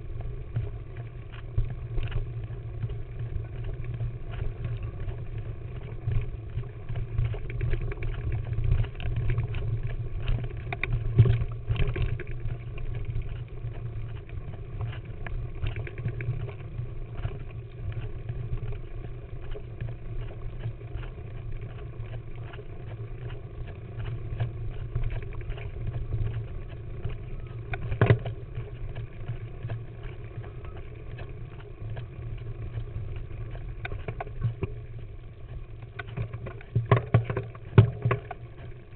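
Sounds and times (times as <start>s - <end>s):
bike tyres rumbling on dirt: 0.0s - 38.9s.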